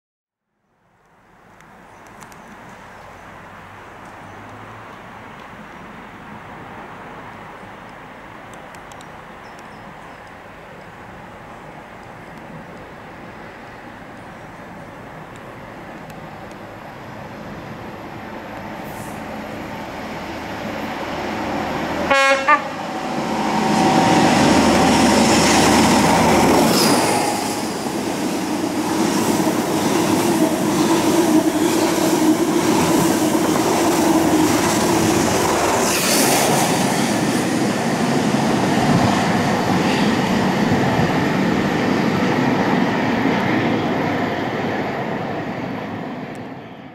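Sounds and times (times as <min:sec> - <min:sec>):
train engine passing: 0:05.1 - 0:46.9.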